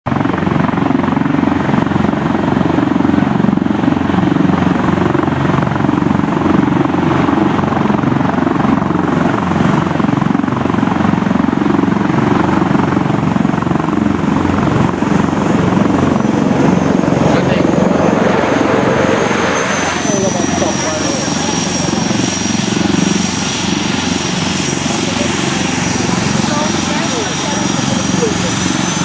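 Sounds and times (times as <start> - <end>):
helicopter rotor beat and engine: 0.0 - 29.0.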